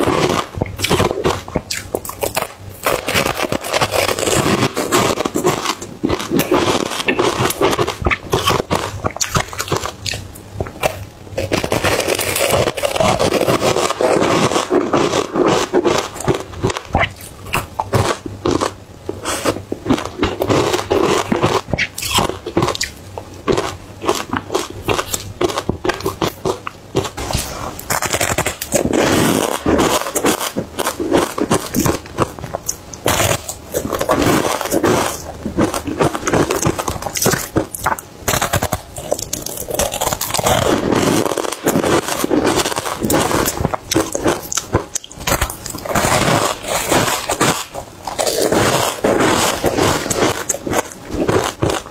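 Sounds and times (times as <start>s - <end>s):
biting and chewing ice chunks: 0.0s - 51.9s.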